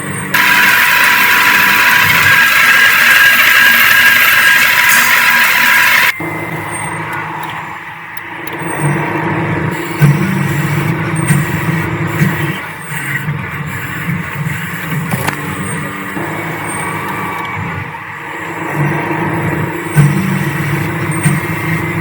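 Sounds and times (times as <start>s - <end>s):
metal lathe humming: 0.3s - 7.6s, 8.4s - 22.0s.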